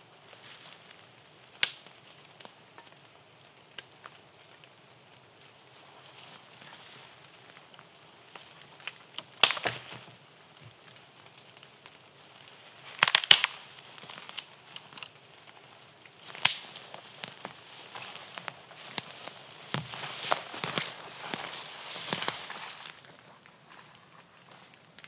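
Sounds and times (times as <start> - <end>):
twigs crackling: 0.0 - 25.0
branches snapping: 0.5 - 2.9, 6.2 - 23.9.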